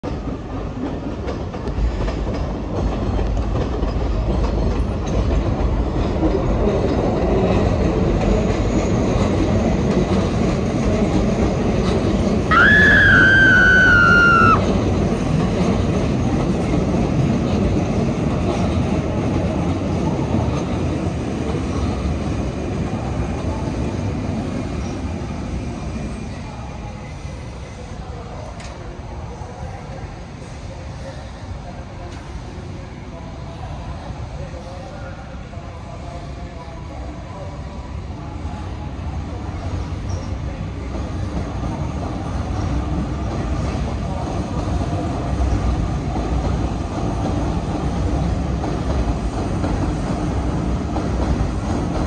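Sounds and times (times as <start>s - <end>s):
electric trains rumbling: 0.0s - 52.0s.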